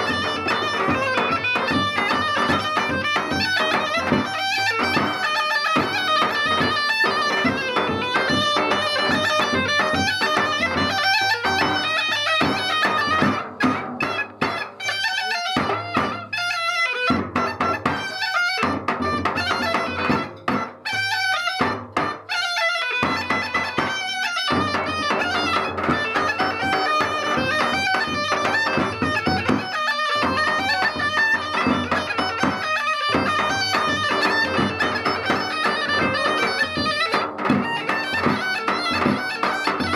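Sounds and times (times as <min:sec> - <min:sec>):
bagpipe folk tune with drone: 0:00.0 - 0:39.9
drum beating: 0:00.0 - 0:39.9.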